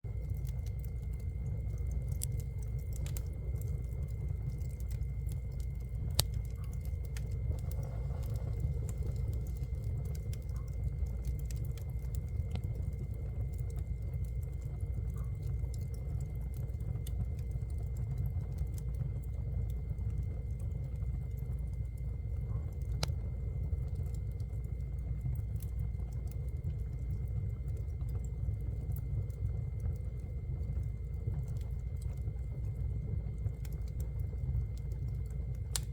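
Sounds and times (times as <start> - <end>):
low rumble of flames: 0.0 - 35.9
wood fire crackling and popping: 0.0 - 35.9.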